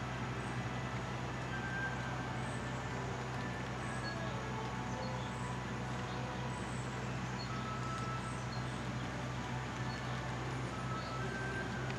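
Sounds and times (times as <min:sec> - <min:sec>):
low mechanical hum: 0:00.0 - 0:11.9.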